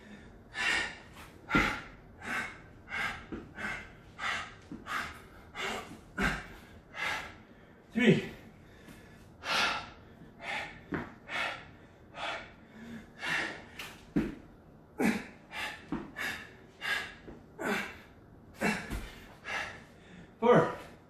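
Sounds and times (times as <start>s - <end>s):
man breathing hard: 0.0s - 21.0s.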